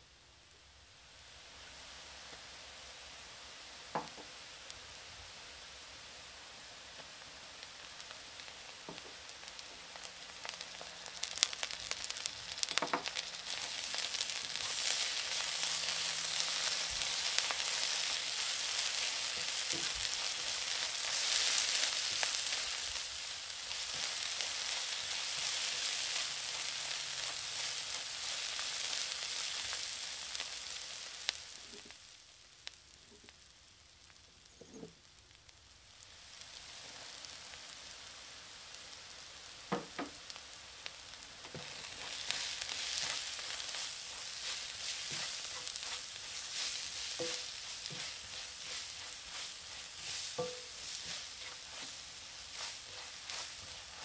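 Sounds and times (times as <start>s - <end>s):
onion sizzling in oil: 0.0s - 54.0s.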